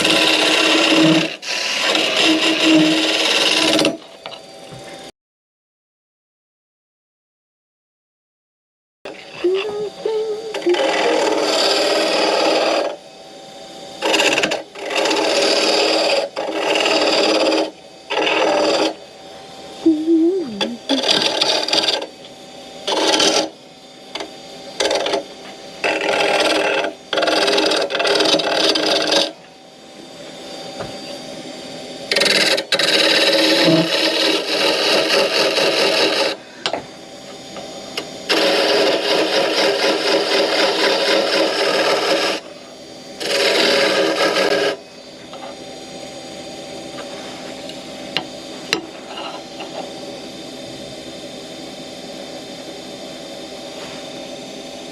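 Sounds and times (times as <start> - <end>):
tool scraping spinning wood: 0.0 - 5.1, 9.1 - 45.8, 46.8 - 50.0
wood lathe humming: 0.0 - 5.1, 9.1 - 51.8.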